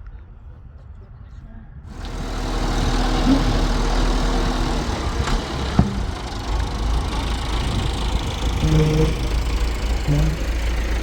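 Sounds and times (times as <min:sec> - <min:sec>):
tractor engine running: 0:01.9 - 0:11.0.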